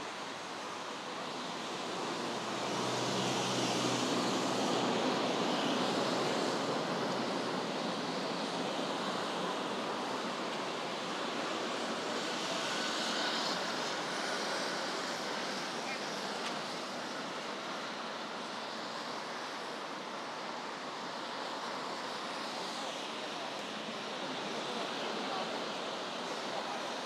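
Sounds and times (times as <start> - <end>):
traffic on a wet road: 0.0 - 27.0.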